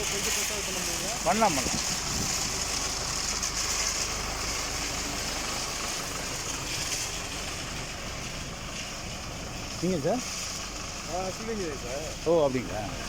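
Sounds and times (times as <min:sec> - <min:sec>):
concrete mixer machinery noise: 0:00.0 - 0:13.0
tractor engine running: 0:00.0 - 0:13.0.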